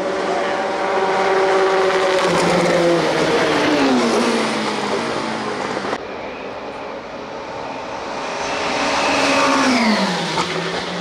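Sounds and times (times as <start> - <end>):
distant car engines: 0.0 - 11.0
race car engine passing: 0.0 - 11.0.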